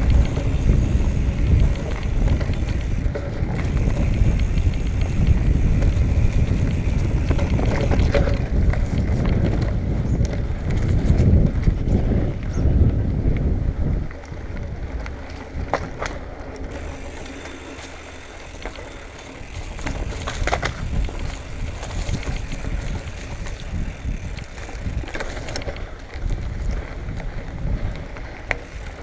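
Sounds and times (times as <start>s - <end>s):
bike clicking and rattling: 0.0s - 29.0s
bike tyres rolling over dirt: 0.0s - 29.0s.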